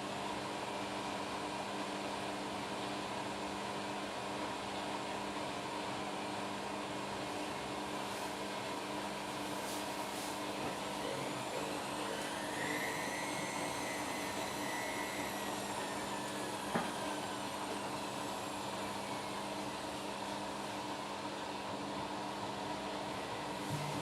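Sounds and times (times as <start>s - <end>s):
washing machine spinning: 0.1s - 24.0s.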